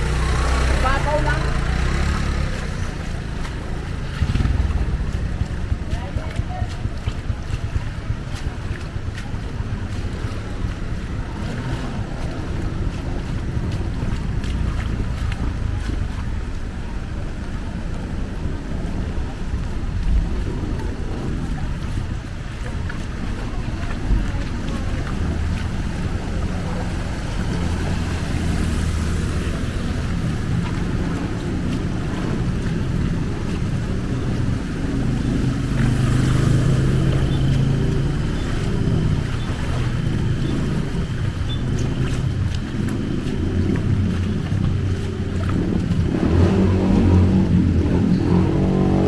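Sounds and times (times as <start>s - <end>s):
floodwater rushing around legs: 0.0s - 49.0s
vehicle engine running: 0.0s - 49.0s
water splashes: 0.0s - 49.0s
wind on microphone: 0.0s - 49.0s.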